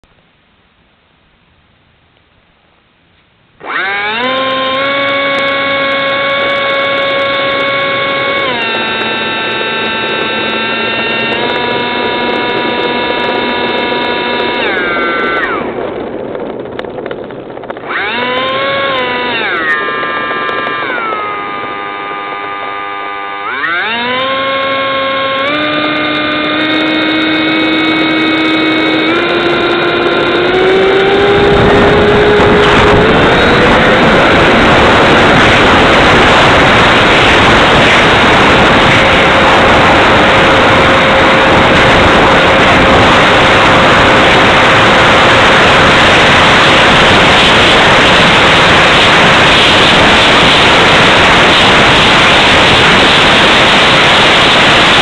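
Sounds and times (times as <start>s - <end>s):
electric ducted fan whining: 2.2s - 55.0s.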